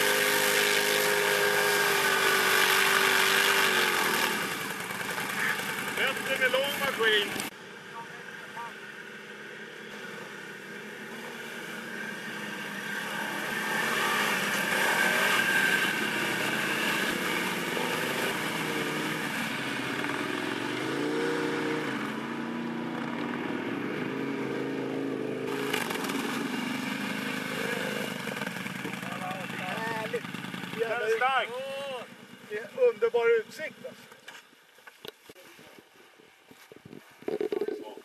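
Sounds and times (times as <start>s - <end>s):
atv engine revving: 0.0s - 34.4s.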